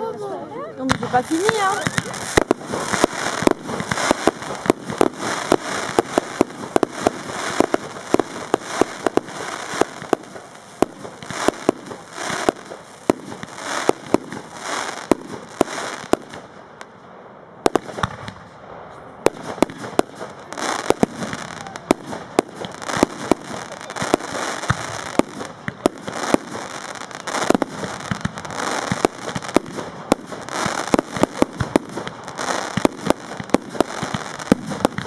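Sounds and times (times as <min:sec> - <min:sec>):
crackling and hiss of fireworks: 0:00.0 - 0:35.0.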